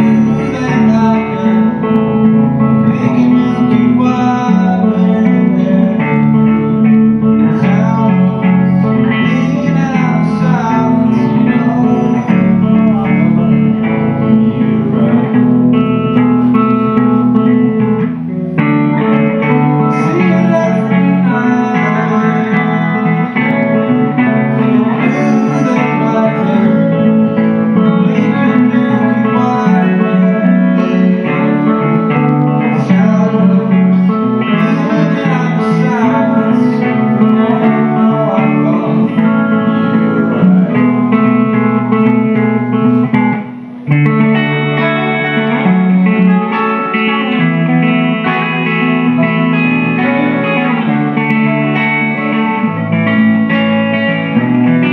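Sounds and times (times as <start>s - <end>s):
guitar playing: 0.0s - 54.9s
person singing: 0.0s - 54.9s.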